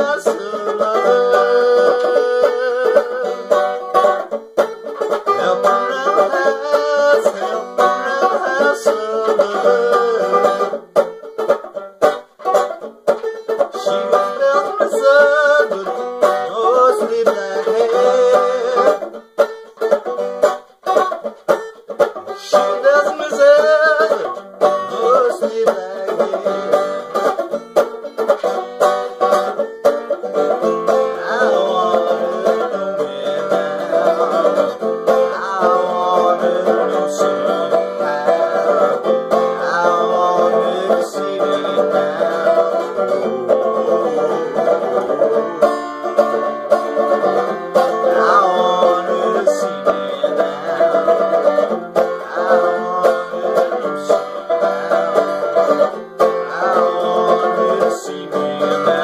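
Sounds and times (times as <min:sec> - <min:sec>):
man singing: 0:00.0 - 0:04.2, 0:04.9 - 0:10.8, 0:13.7 - 0:19.2, 0:22.2 - 0:27.4, 0:30.3 - 0:59.0
banjo playing slowly: 0:00.0 - 0:59.0.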